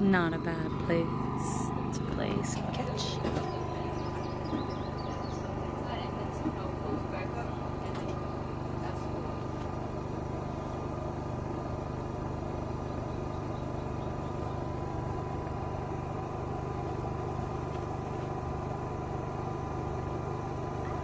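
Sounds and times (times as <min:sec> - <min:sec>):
constant whine: 0:00.0 - 0:21.0
motor humming: 0:00.0 - 0:21.0.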